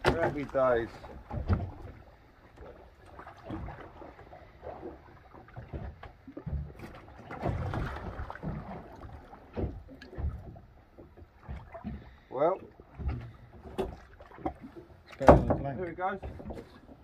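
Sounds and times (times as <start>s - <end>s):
water lapping against hull: 0.0s - 17.0s.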